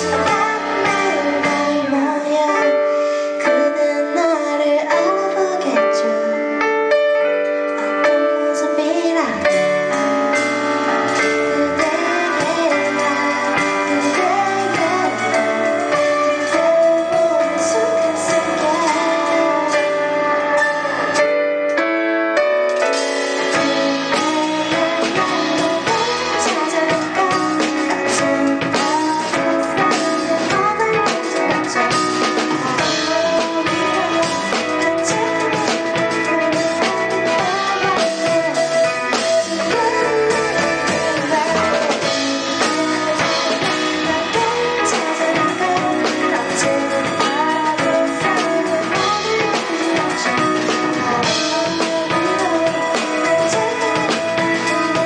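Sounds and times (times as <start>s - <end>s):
pop-rock band music: 0.0s - 55.0s.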